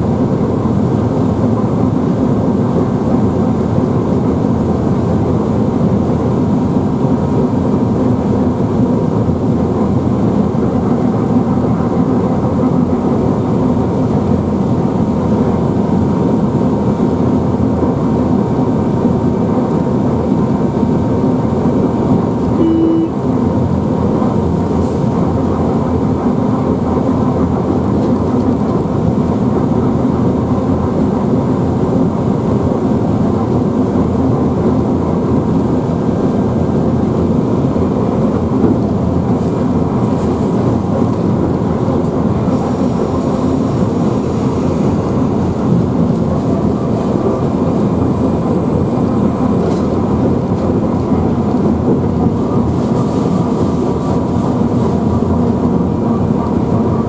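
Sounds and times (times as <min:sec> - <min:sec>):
locomotive humming: 0:00.0 - 0:57.0
wheels rumbling on rail: 0:00.0 - 0:57.0.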